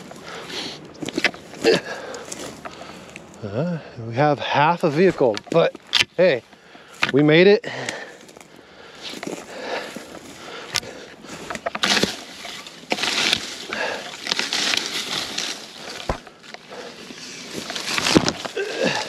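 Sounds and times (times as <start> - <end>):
footsteps crunching through dry grass: 0.0 - 19.0.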